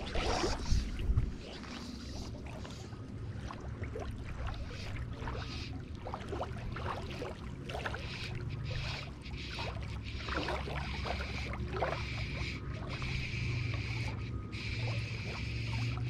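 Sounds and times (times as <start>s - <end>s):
distant boat motor hum: 0.0s - 16.0s.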